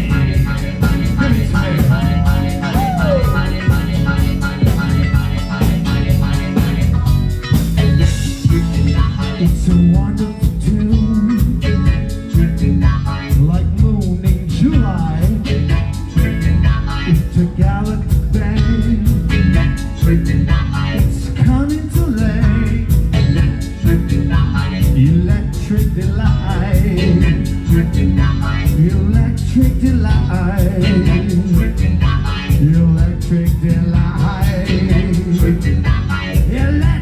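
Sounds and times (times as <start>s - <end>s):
rock band playing live: 0.0s - 37.0s.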